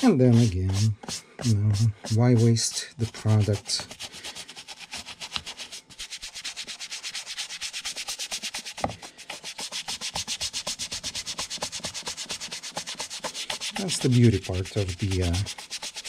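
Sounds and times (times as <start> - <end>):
rapid rubbing on leather: 0.0 - 16.0.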